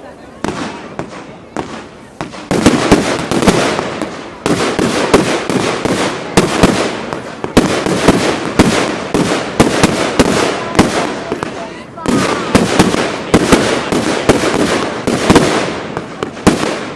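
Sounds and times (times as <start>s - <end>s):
firecracker crackle: 0.0s - 16.9s
fireworks bangs: 0.0s - 16.9s.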